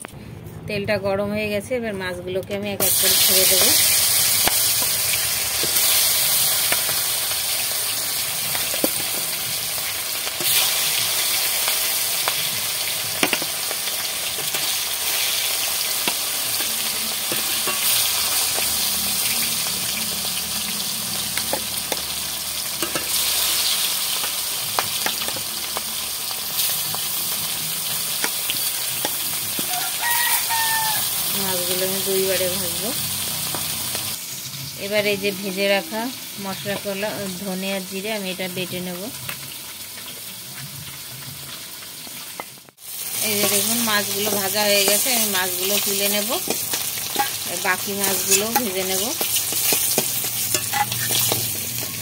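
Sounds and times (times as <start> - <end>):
oil crackling and popping: 2.8 - 31.8, 39.2 - 52.0
fish sizzling in hot oil: 2.8 - 52.0.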